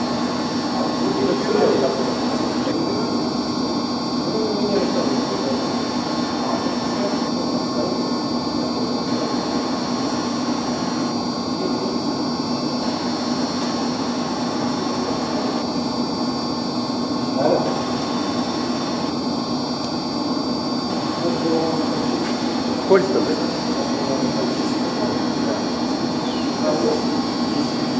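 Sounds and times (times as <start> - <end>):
high motor whines: 0.0 - 27.9
machinery hum: 0.0 - 27.9.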